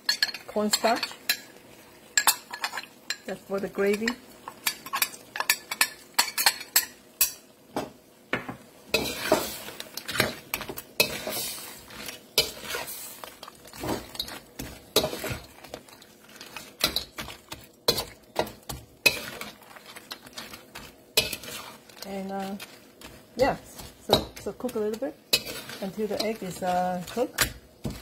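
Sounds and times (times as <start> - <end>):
sauce sizzling: 0.0 - 28.0.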